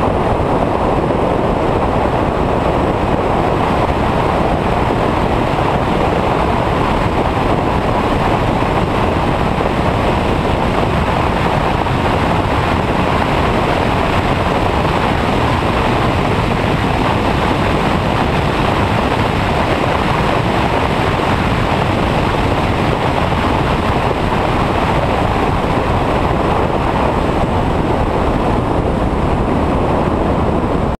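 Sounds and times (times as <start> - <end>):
road and car noise: 0.0 - 31.0
wind rush over microphone: 0.0 - 31.0.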